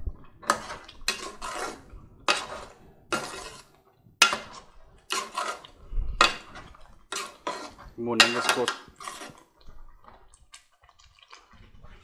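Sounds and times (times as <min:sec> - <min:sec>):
metal spoon scraping a pot: 0:00.4 - 0:12.0.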